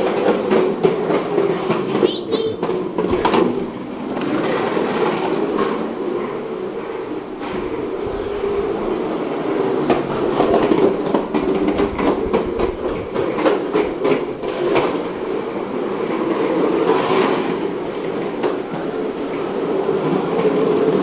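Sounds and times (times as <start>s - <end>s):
plastic wheels rolling on hard floor: 0.0s - 21.0s.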